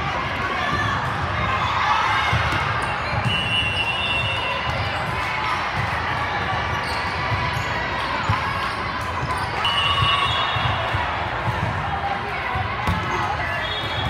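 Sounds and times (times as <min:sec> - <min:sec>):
echoing voices in a hall: 0:00.0 - 0:14.0.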